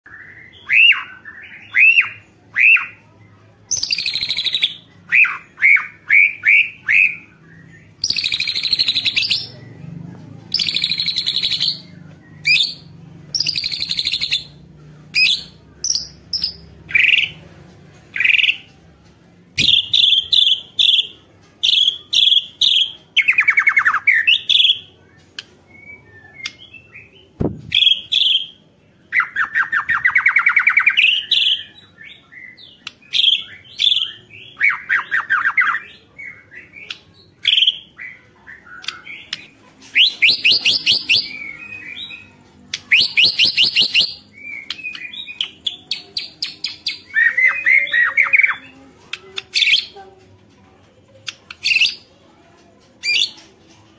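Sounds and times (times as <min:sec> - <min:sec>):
songbird whistling song: 0:00.1 - 0:03.1, 0:03.7 - 0:09.7, 0:10.5 - 0:17.4, 0:19.6 - 0:48.7, 0:51.3 - 0:52.1.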